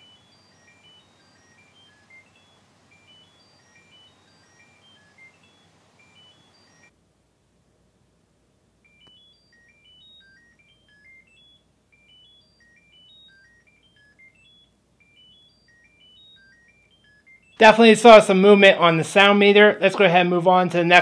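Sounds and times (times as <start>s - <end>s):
muffled tracker beeping tune: 0.0s - 6.9s, 8.8s - 19.3s.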